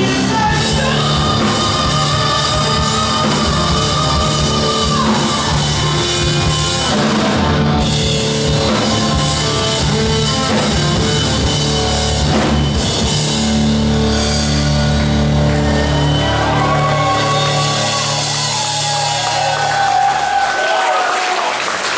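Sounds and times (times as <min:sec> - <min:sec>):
rock music: 0:00.0 - 0:20.7.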